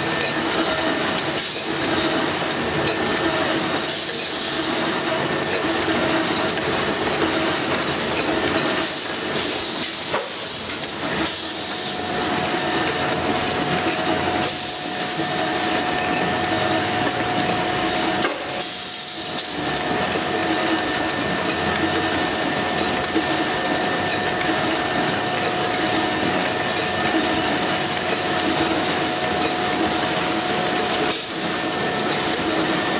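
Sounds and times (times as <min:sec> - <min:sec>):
machine hum of tones: 0:00.0 - 0:32.9.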